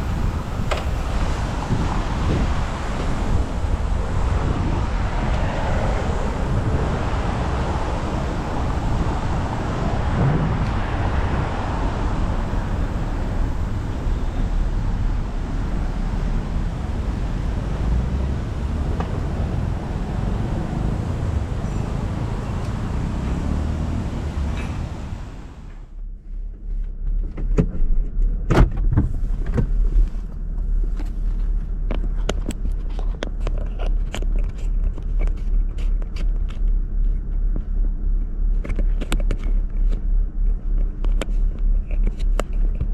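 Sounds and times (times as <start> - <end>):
road traffic rumble: 0.0 - 42.9.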